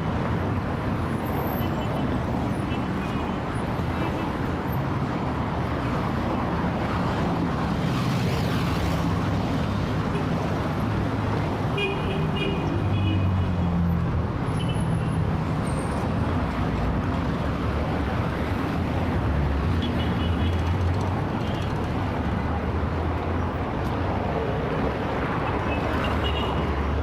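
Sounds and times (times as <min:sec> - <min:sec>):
heavy traffic noise: 0:00.0 - 0:27.0.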